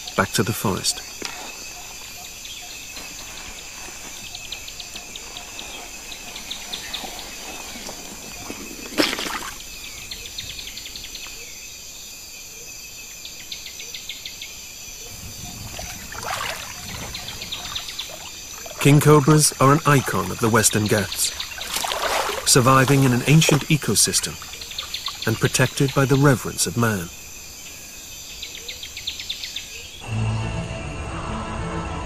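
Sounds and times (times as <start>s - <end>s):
insects buzzing and chirping: 0.0s - 31.0s
louder insect call: 0.0s - 32.0s.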